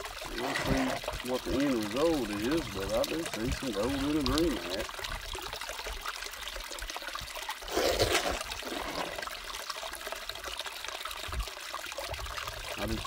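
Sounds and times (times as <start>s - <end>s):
water rush: 0.0s - 5.8s, 7.3s - 13.0s
water trickling down sluice: 0.0s - 13.0s.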